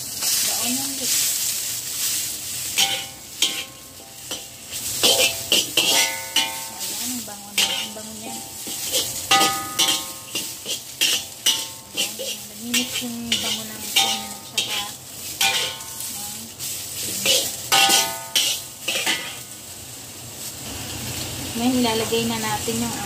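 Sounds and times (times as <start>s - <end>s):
oil sizzling: 0.0s - 23.0s
metal ladle scraping a wok: 0.2s - 19.6s.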